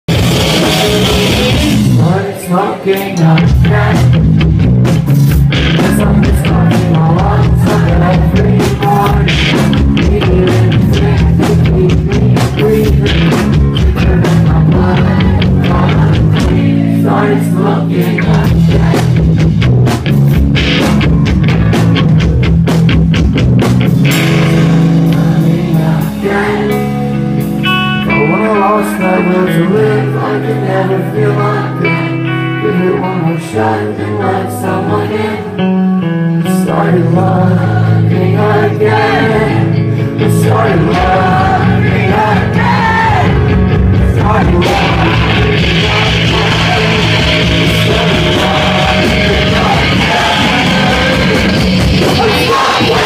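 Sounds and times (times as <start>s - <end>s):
drums: 0.0s - 30.3s, 36.6s - 53.0s
electric guitars: 0.1s - 53.0s.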